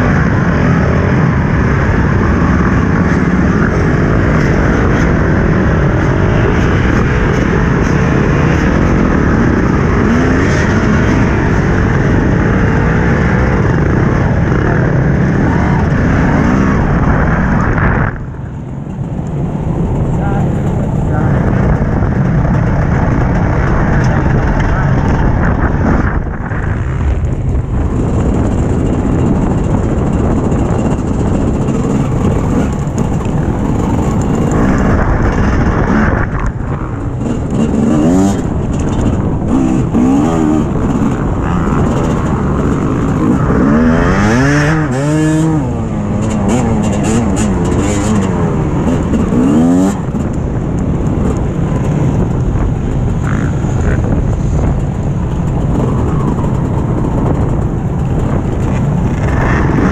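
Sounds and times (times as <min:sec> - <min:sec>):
dirt bike engine running hard: 0:00.0 - 0:59.9.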